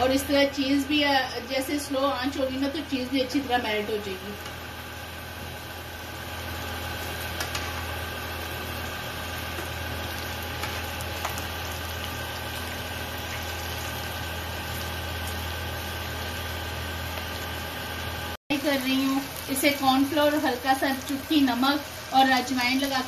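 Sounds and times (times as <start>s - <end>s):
steady low hum: 0.0s - 23.0s
food frying in oil with pops: 4.3s - 23.0s.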